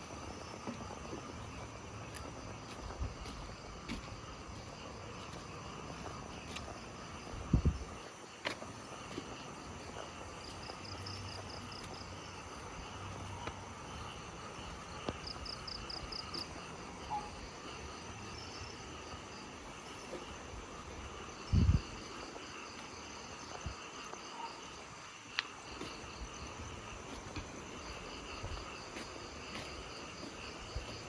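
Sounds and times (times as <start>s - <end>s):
crickets and insects trilling: 0.0s - 31.0s.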